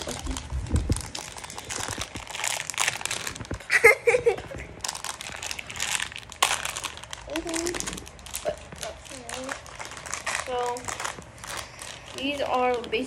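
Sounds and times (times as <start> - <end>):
plastic wrapper crinkling: 0.0 - 13.0
wrapper crackling sharply: 0.0 - 13.0.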